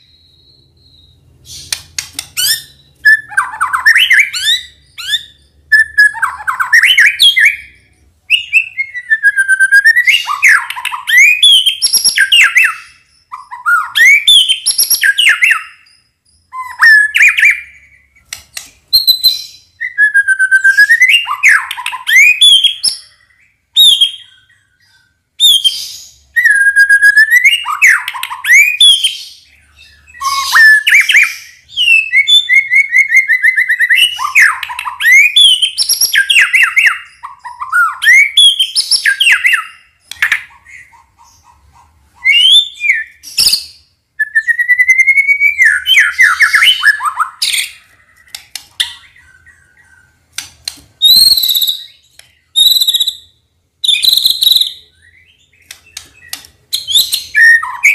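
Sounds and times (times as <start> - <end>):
bird singing whistled phrases: 0.0 - 18.3, 18.9 - 40.9, 42.2 - 50.1, 51.0 - 57.9.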